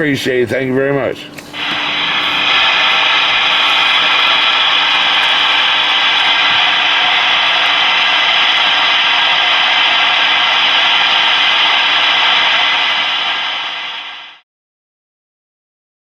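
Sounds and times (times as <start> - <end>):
radio static hiss: 1.6 - 14.4.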